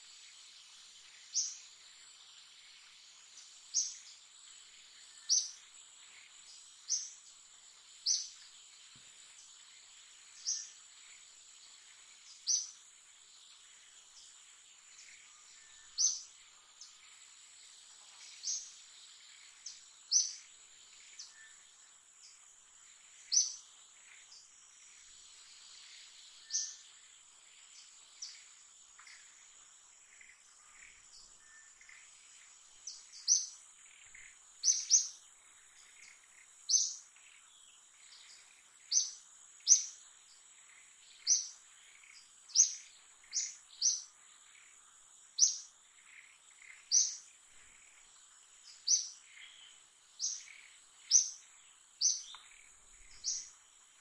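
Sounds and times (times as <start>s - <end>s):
bird chirping: 0.0s - 54.0s
insect drone: 0.0s - 54.0s.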